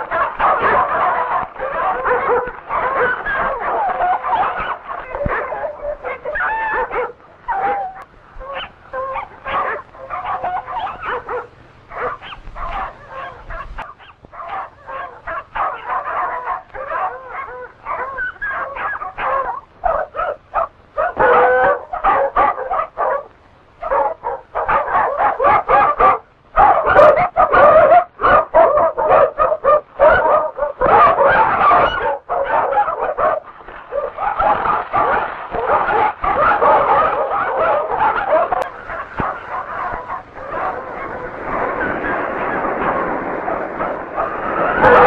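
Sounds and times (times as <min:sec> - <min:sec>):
sled dogs barking and yelping: 0:00.0 - 0:45.0.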